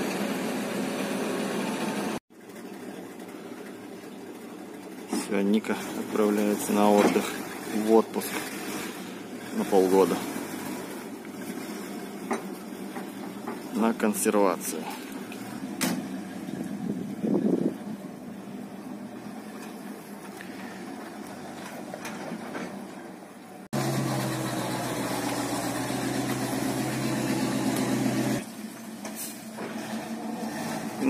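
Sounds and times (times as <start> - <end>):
low outdoor noise: 0.0 - 31.0.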